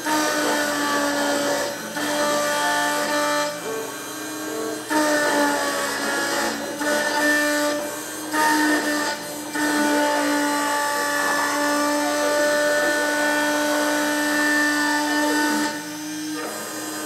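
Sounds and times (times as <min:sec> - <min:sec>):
engraving spindle high whine: 0:00.0 - 0:17.0
gritty cutting noise: 0:00.0 - 0:17.0.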